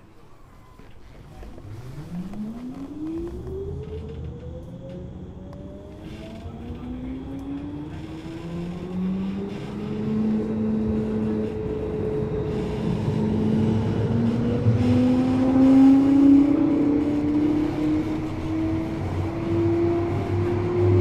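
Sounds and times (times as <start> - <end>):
tram electric drive whining: 0.0 - 21.0
tram running rumble: 0.0 - 21.0.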